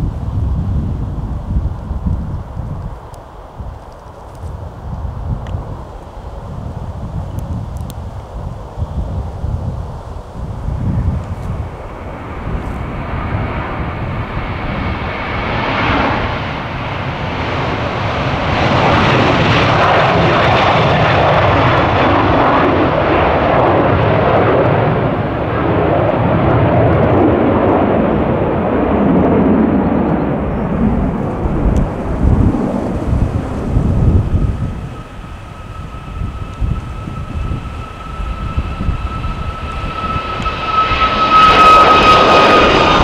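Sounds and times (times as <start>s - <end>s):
jet engines roaring past: 0.0s - 43.0s.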